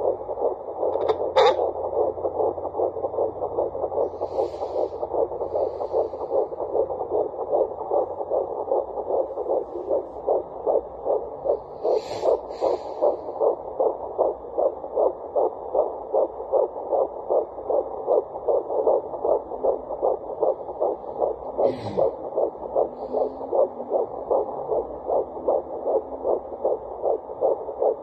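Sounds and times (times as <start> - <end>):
fetal heartbeat through speaker: 0.0 - 28.0.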